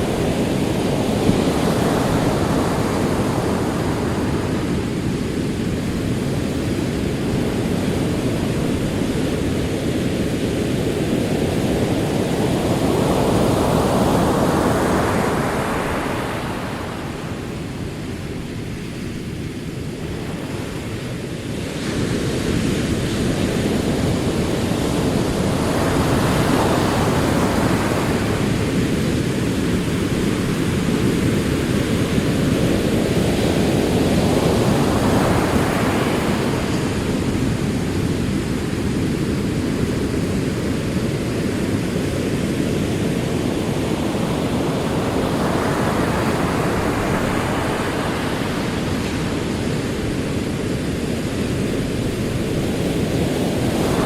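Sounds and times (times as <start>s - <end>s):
ocean surf rolling in: 0.0s - 54.0s.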